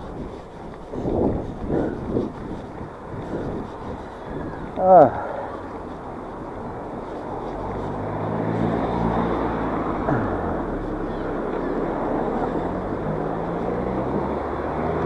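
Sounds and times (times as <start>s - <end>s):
wind and riding noise: 0.0s - 15.0s.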